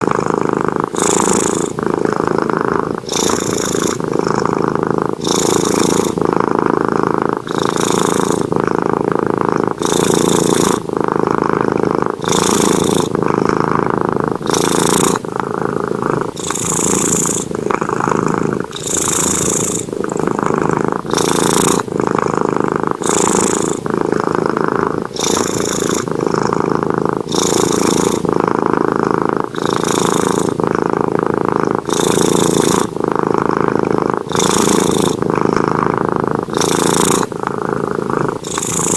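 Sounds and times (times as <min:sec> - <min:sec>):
cat snoring: 0:00.0 - 0:38.9.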